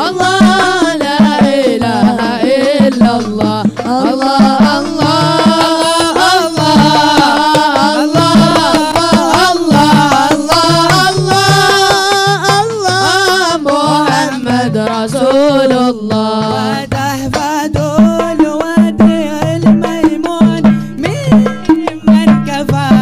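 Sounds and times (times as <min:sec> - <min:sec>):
hand drums beating: 0:00.0 - 0:23.0
person singing: 0:00.0 - 0:23.0.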